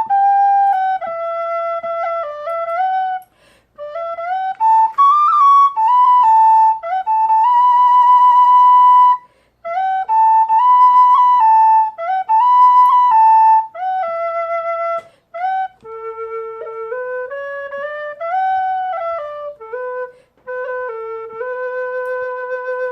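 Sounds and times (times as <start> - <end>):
irish whistle playing slow melody: 0.0 - 22.9.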